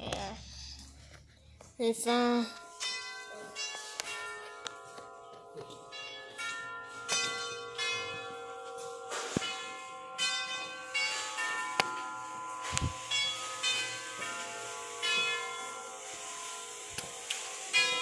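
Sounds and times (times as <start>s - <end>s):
clocks chiming and striking: 2.1s - 18.0s.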